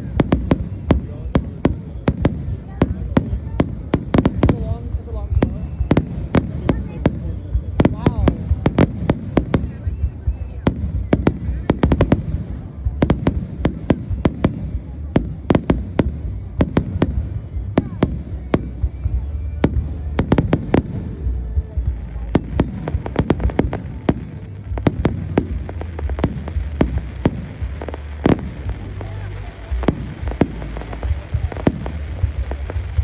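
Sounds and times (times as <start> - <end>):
fireworks bangs: 0.0 - 33.0
low rumble: 0.0 - 33.0.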